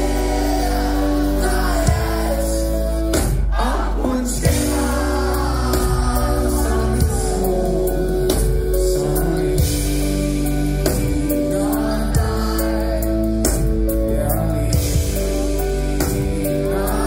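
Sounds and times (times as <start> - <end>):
person singing lead vocal: 0.0 - 17.0
pop-rock band playing: 0.0 - 17.0.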